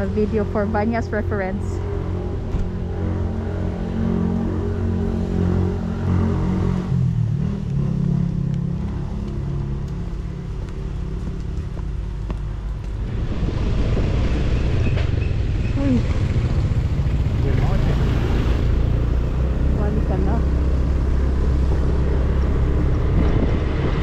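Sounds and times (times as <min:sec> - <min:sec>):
vehicle engine running: 0:00.0 - 0:13.6, 0:14.2 - 0:24.0
road and wind noise: 0:00.0 - 0:24.0.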